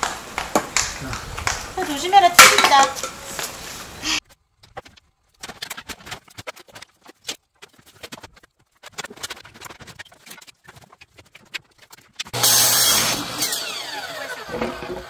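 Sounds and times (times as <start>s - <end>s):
firewood crackling in a stove: 0.0s - 12.4s.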